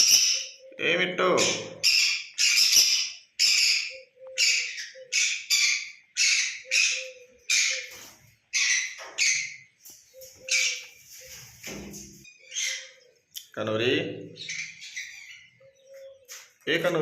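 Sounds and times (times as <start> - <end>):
parrot squawking: 0.0 - 11.0, 12.2 - 13.2, 14.4 - 16.1.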